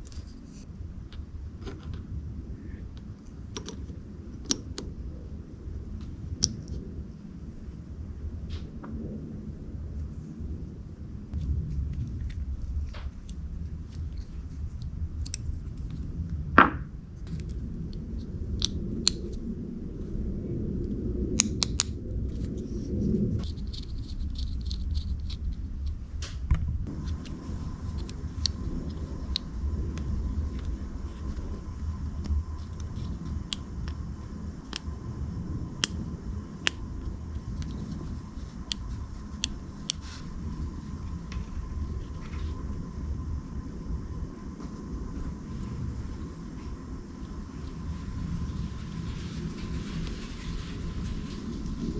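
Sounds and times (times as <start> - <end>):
faint high whine: 0.0 - 51.9
steady low rumble: 0.0 - 51.9.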